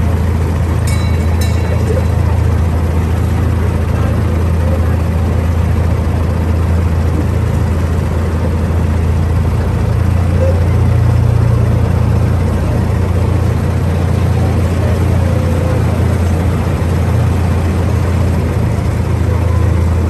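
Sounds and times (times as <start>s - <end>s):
miniature train drive droning: 0.0s - 20.0s.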